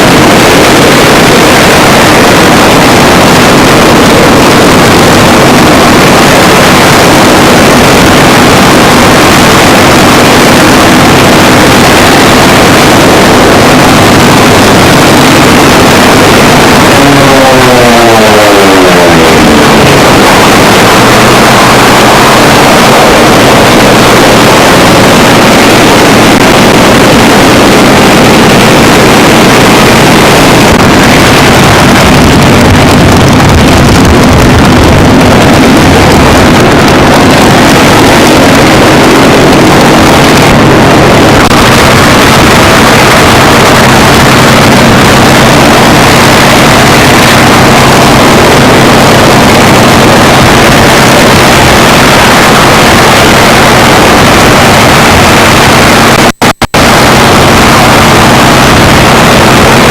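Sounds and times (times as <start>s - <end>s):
aircraft engine running: 0.0s - 59.9s.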